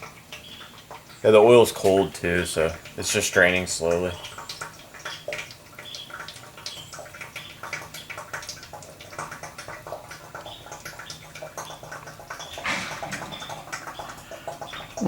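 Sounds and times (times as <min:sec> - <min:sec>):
oil dripping into drain pan: 0:00.0 - 0:15.0.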